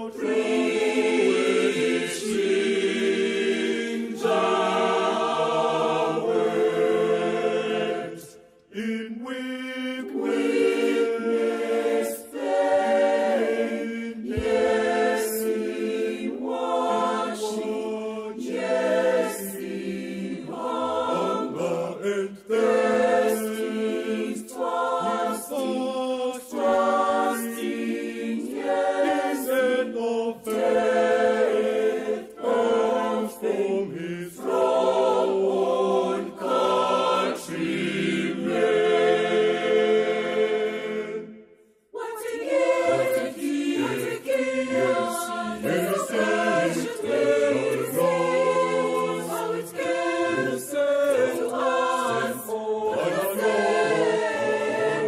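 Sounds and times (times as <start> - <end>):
mixed choir singing gospel: 0.0 - 55.0.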